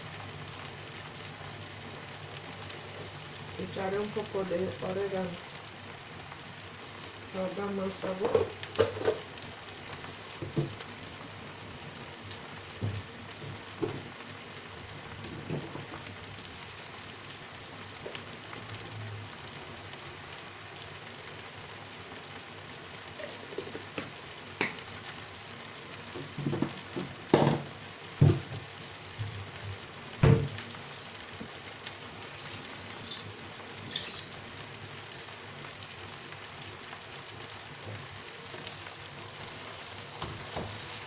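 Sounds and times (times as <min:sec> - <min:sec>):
stew frying in a pan: 0:00.0 - 0:41.0.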